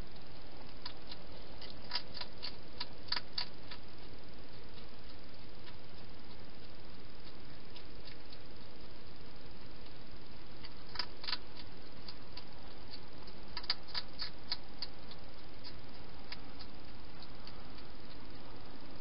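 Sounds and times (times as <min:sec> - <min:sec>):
steady hiss: 0:00.0 - 0:19.0
hedgehog chewing clicks: 0:00.2 - 0:09.0, 0:09.8 - 0:18.4.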